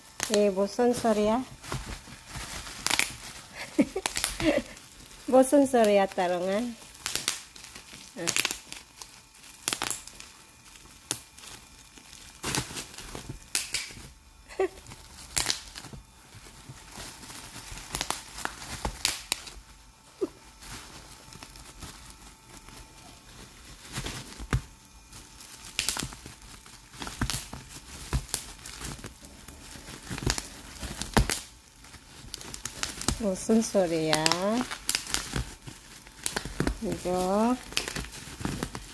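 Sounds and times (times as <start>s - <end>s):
bubble wrap crackling: 0.0s - 38.9s.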